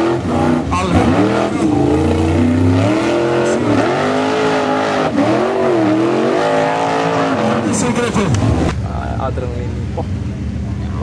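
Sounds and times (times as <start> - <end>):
buggy engine revving hard: 0.0 - 9.0.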